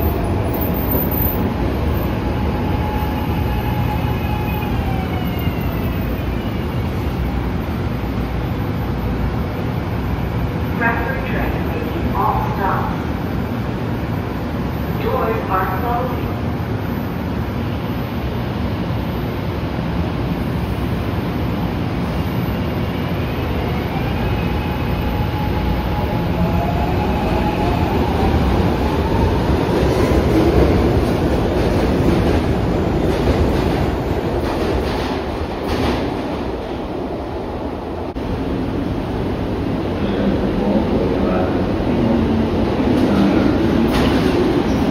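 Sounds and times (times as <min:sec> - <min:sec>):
subway train rumble: 0:00.0 - 0:44.9.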